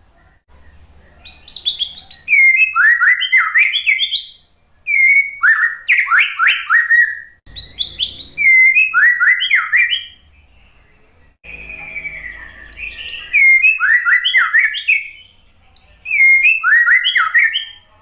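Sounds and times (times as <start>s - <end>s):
bird singing whistled phrases: 1.2s - 17.9s.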